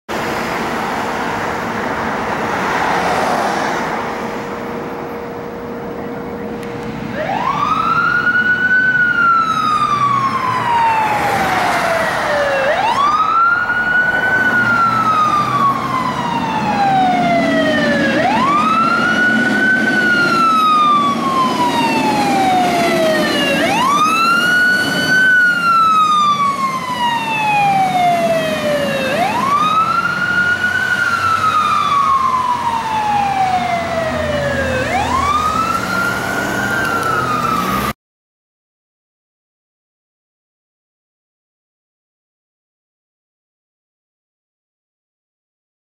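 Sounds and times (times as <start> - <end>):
fire engine siren wailing: 0.1 - 38.0.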